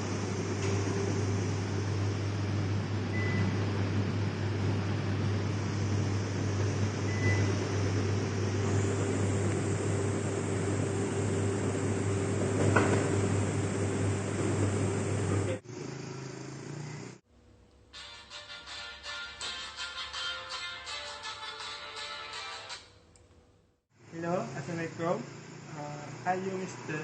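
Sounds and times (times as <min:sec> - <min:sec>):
low mechanical hum: 0:00.0 - 0:18.0, 0:22.8 - 0:27.0.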